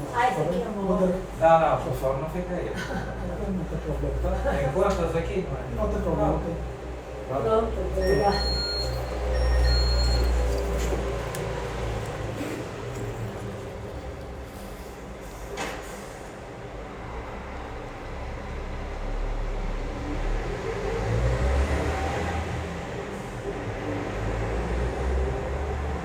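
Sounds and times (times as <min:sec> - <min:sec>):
road vehicle engine rumble: 0:02.9 - 0:26.0.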